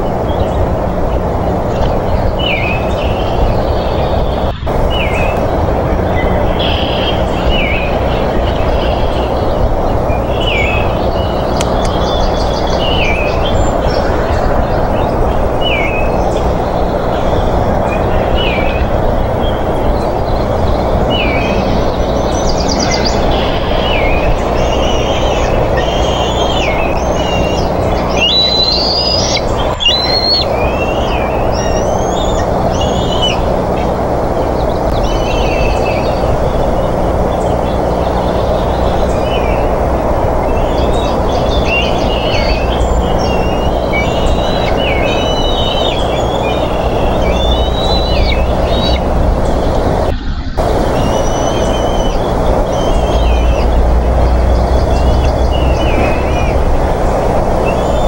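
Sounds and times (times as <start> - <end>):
low electrical hum: 0.0 - 58.0
small birds singing: 0.0 - 58.0
steady loud rushing noise: 0.0 - 58.0.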